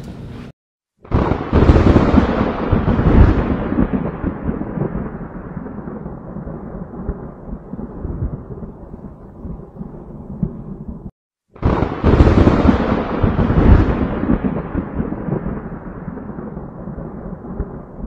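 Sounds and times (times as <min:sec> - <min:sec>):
thunder clap and rumble: 0:01.0 - 0:18.0.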